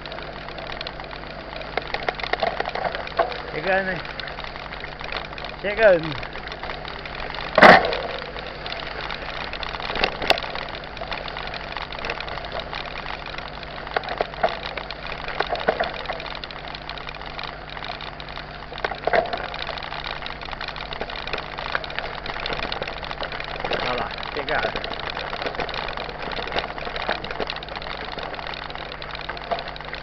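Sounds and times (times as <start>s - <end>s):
bike tyres rolling on gravel: 0.0s - 30.0s
tyres crackling over stones: 0.0s - 30.0s.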